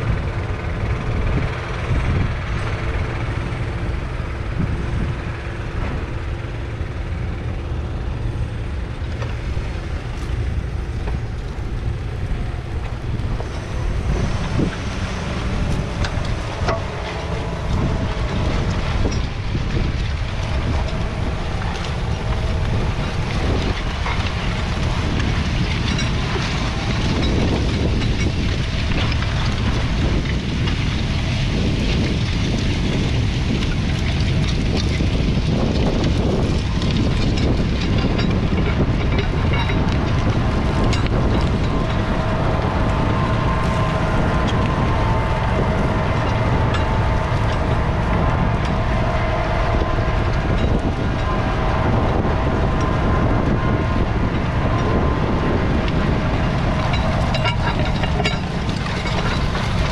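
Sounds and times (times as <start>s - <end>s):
tractor diesel engine running: 0.0s - 59.9s
wind buffeting microphone: 0.0s - 59.9s.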